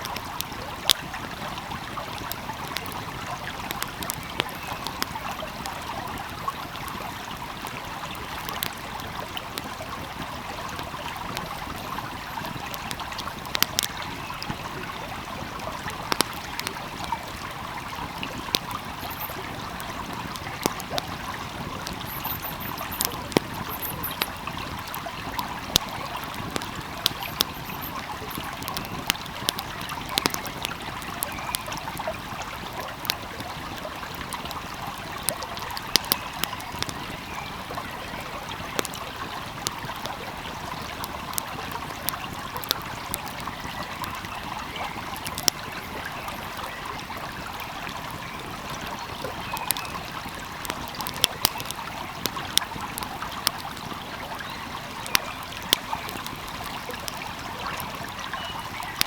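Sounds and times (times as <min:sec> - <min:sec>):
wood fire crackling: 0:00.0 - 0:37.8, 0:38.4 - 0:59.0
stream flowing: 0:00.0 - 0:59.0.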